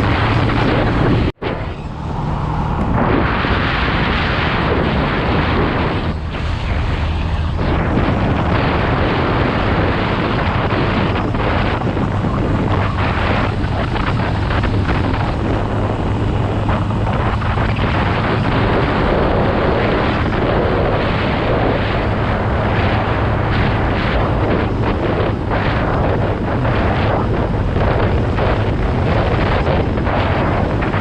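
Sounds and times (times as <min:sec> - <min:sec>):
dirt bike engine running: 0:00.0 - 0:31.0
wind noise on microphone: 0:00.0 - 0:31.0.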